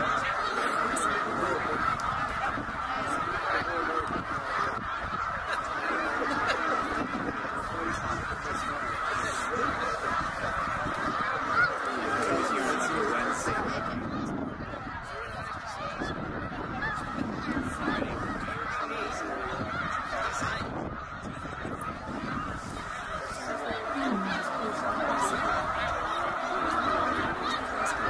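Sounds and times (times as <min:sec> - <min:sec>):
flock of geese honking: 0:00.0 - 0:28.0.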